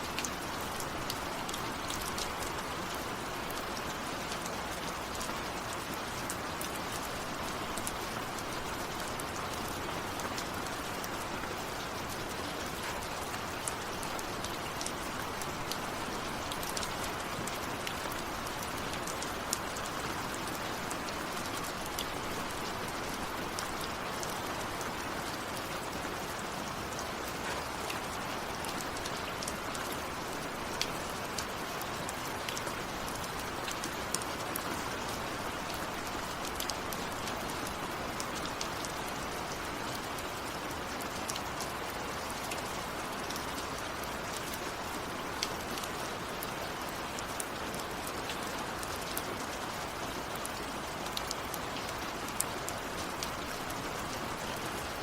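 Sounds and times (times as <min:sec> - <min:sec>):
steady rain falling: 0:00.0 - 0:55.0
raindrops ticking close by: 0:00.1 - 0:55.0.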